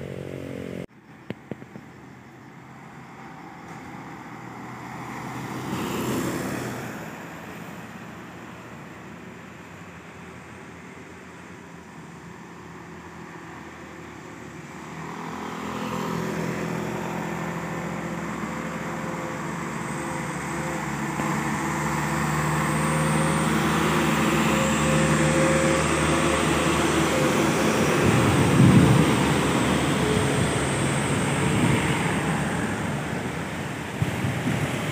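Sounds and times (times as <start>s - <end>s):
trucks diesel engine hum: 0.0s - 34.9s.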